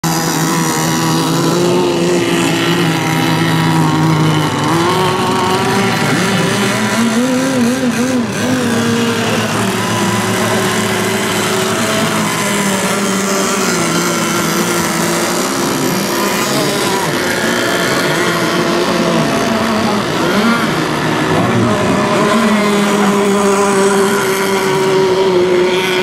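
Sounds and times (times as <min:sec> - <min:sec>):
small boat engines buzzing: 0:00.0 - 0:26.0.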